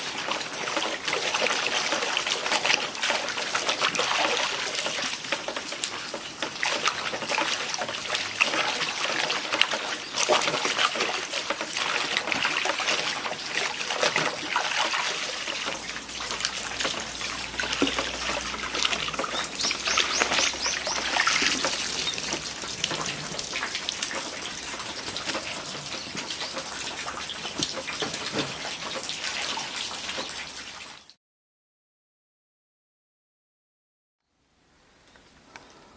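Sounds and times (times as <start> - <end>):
water splashing and trickling: 0.0 - 31.2.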